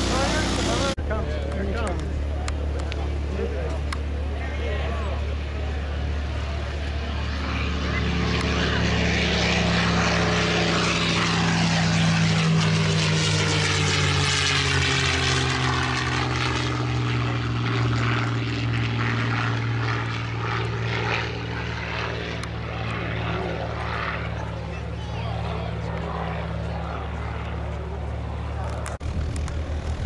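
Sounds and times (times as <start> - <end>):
piston aircraft engine flying past: 0.0 - 30.0.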